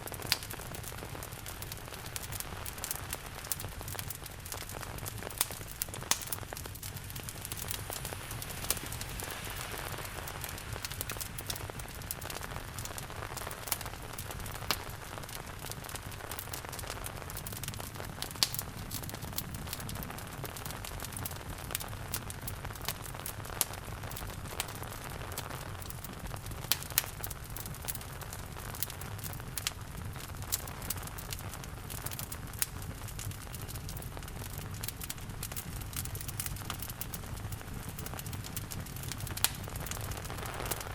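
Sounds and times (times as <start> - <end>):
rain: 0.0 - 40.9
wood fire crackling: 0.0 - 40.9.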